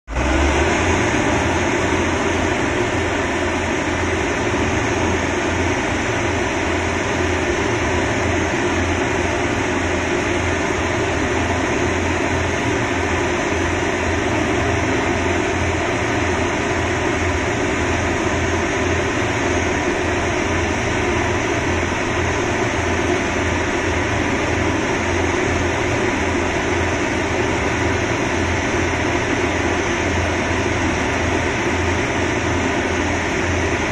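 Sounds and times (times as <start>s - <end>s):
concrete mixer engine running: 0.0s - 33.9s.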